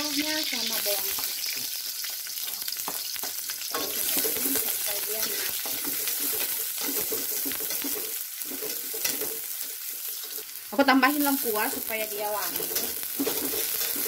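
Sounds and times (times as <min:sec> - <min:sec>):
shallots and garlic sizzling in oil: 0:00.0 - 0:14.0
spatula scraping a wok: 0:02.3 - 0:14.0.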